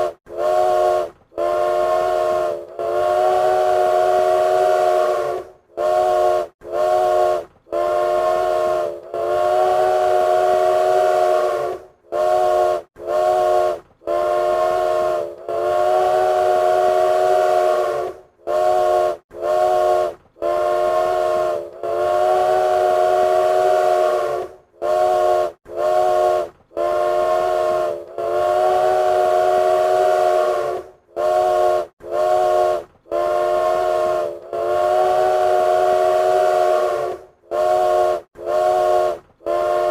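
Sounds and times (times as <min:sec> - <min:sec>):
train whistle blasts: 0:00.0 - 0:39.9.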